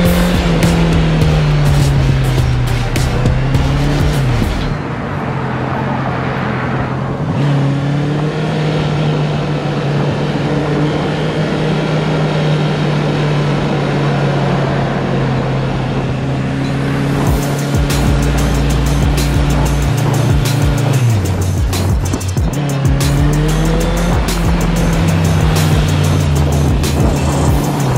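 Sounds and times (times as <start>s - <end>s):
motorcycle engine cruising: 0.0s - 27.9s
road and wind noise: 0.0s - 27.9s.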